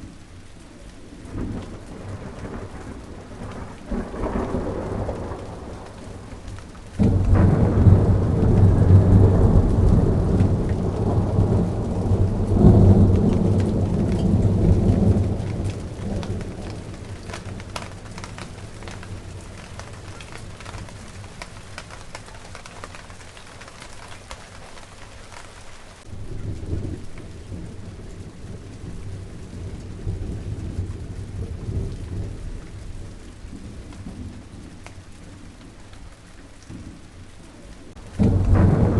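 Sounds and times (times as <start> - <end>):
steady rain on plants: 0.0 - 38.9
rolling thunder: 1.1 - 24.4, 26.0 - 38.9.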